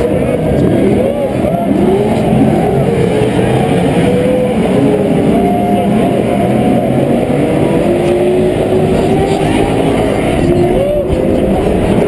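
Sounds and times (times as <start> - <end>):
race truck engines revving: 0.0 - 12.0.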